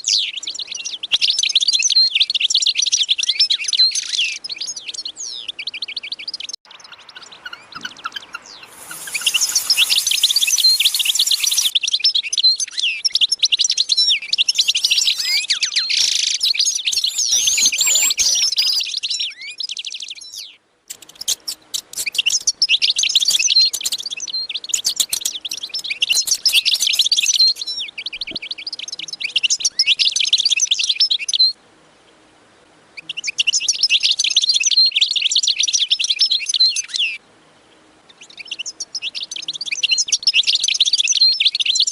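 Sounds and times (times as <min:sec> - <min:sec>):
small birds chirping: 0:00.0 - 0:31.6, 0:33.0 - 0:41.9.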